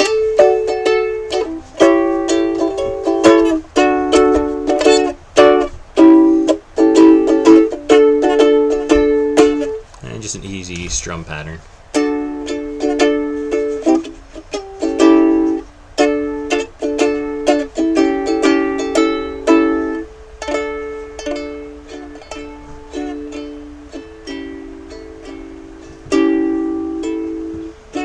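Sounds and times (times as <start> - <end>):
ukulele strumming: 0.0 - 28.0.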